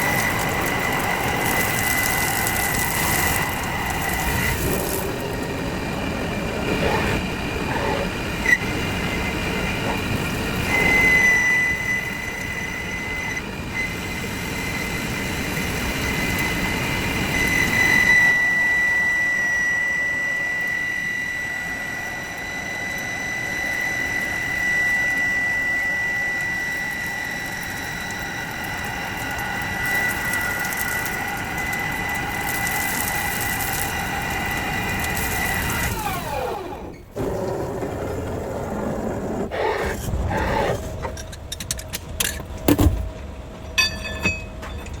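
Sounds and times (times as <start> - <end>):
metalworking machine whining: 0.0 - 45.0.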